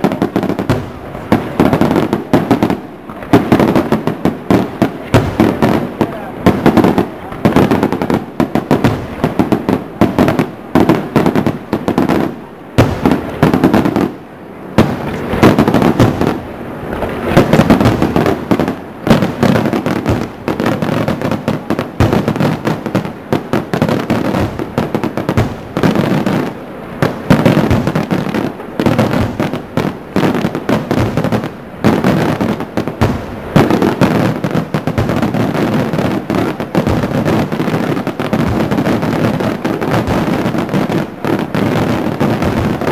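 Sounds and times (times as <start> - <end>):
fireworks bursting: 0.0 - 42.9.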